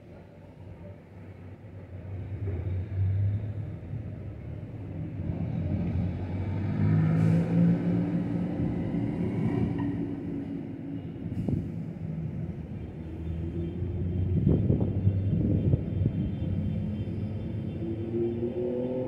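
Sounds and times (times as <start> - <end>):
approaching vehicle rumble: 2.0 - 19.0.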